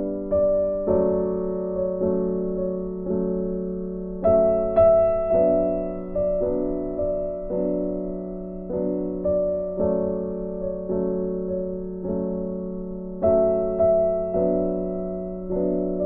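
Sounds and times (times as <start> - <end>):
gentle electric piano notes: 0.0 - 16.0.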